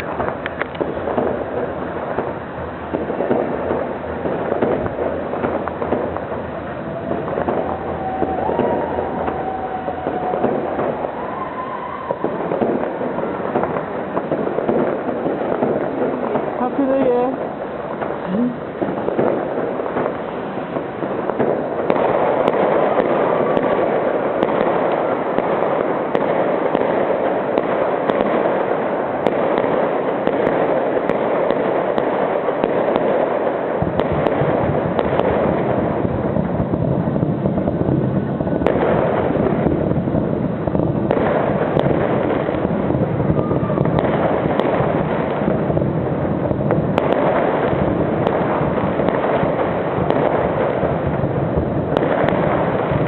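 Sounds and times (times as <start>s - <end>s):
fireworks barrage: 0.0s - 53.0s.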